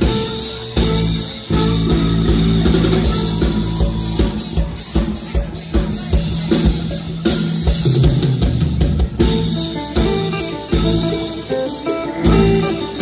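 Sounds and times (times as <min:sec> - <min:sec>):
drum beat: 0:00.0 - 0:13.0
live band through loudspeakers: 0:00.0 - 0:13.0.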